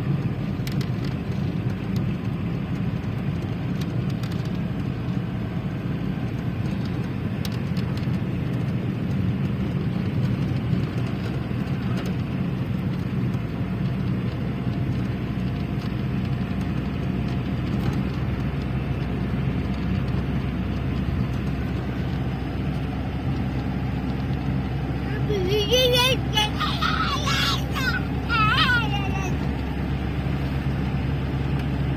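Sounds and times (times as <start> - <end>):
car road and engine noise: 0.0 - 31.9.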